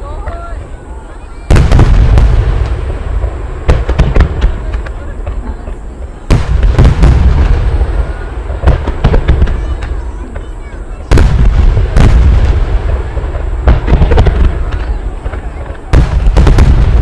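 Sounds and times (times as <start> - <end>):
firework shells booming: 0.0 - 17.0
sharp firework pops and crackles: 0.0 - 17.0.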